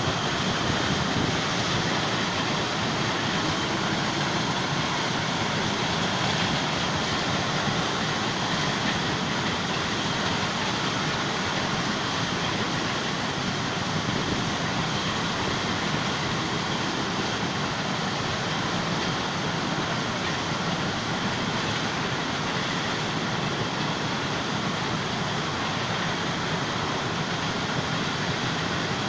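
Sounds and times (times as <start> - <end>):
train wheels running on rail: 0.0 - 29.0.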